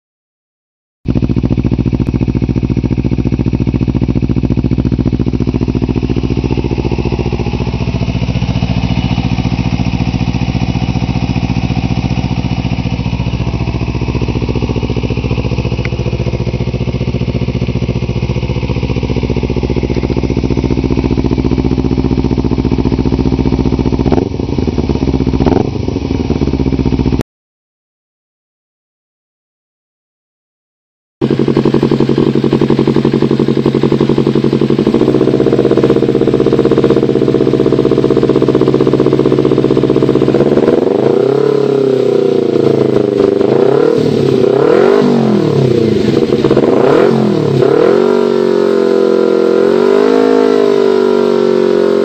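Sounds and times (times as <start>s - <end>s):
motorcycle engine idling: 1.1s - 27.2s, 31.2s - 52.0s
motorcycle engine revving: 1.1s - 27.2s, 31.2s - 52.0s.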